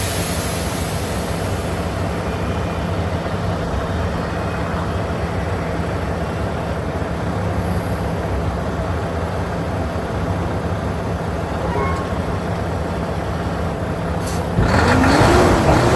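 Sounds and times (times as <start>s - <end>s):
diesel truck engine running: 0.0s - 15.9s.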